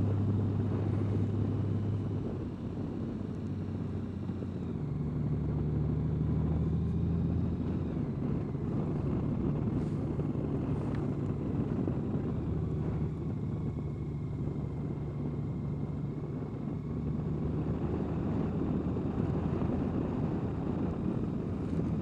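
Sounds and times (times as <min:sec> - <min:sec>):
motorcycle engine cruising: 0:00.0 - 0:22.0
road noise: 0:00.0 - 0:22.0
wind noise: 0:00.0 - 0:22.0.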